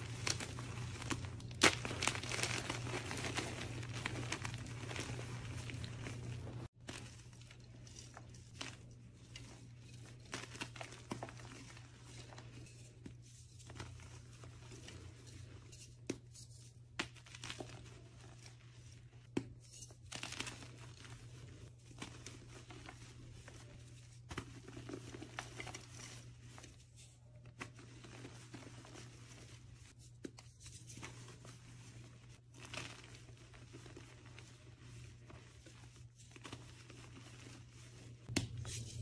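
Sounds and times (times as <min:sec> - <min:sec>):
chalk crunching and crumbling: 0:00.0 - 0:39.0.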